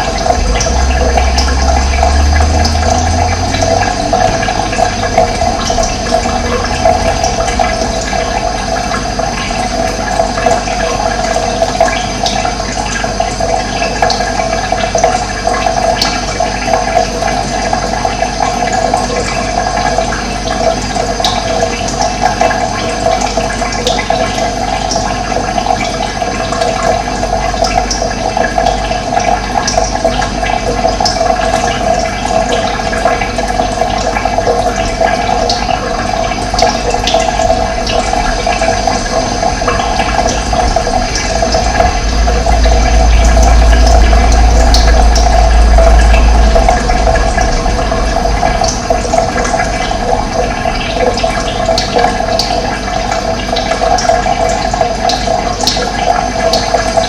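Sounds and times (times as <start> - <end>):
running water gurgling: 0.0 - 57.0.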